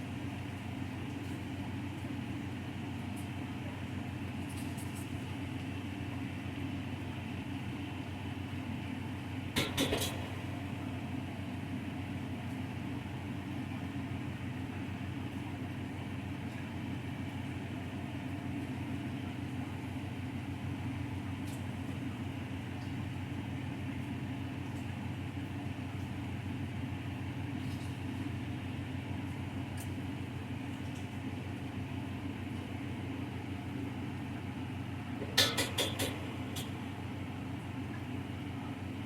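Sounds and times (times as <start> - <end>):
steady mechanical hum: 0.0 - 39.0.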